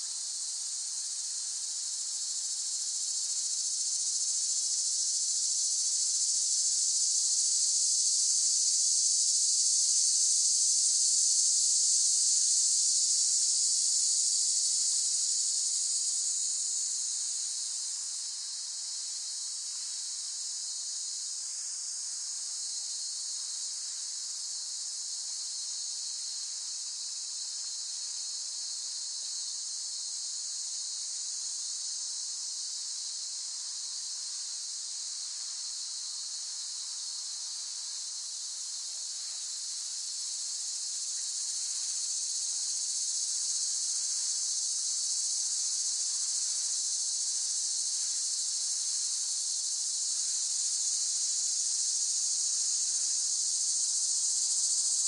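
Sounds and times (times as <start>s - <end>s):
cicadas buzzing: 1.3s - 17.6s, 19.7s - 24.7s, 25.3s - 32.0s, 33.1s - 55.0s.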